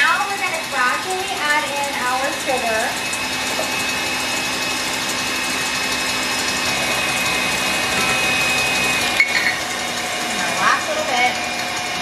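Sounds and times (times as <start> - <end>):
stand mixer motor whining: 0.0 - 12.0.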